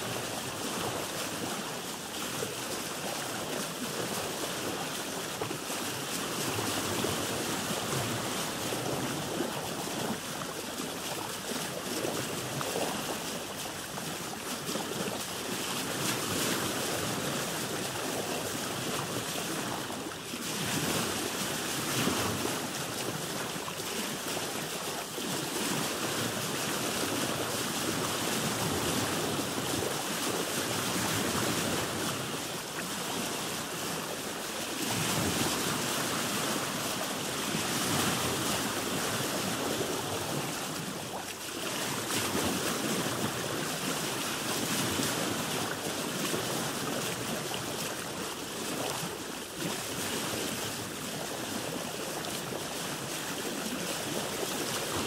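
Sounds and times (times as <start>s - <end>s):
sea water splashing around boat: 0.0s - 55.0s.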